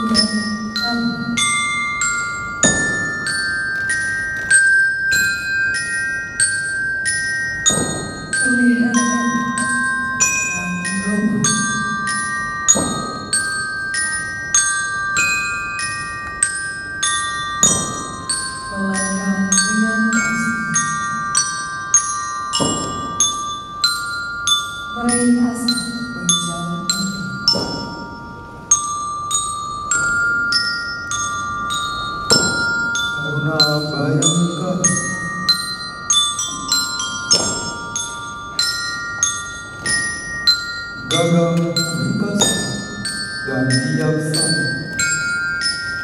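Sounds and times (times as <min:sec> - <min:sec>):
glockenspiel melody: 0:00.0 - 0:46.0
low tones: 0:00.0 - 0:46.0.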